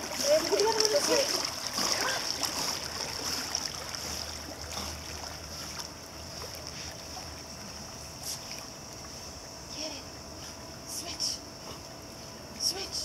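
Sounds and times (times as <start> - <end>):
pool water sloshing: 0.0 - 13.0.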